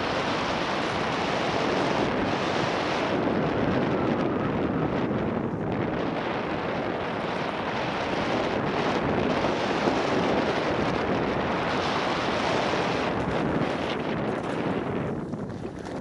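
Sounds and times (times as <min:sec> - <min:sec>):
tyres rumbling on dirt: 0:00.0 - 0:16.0
wind rushing over microphone: 0:00.0 - 0:16.0.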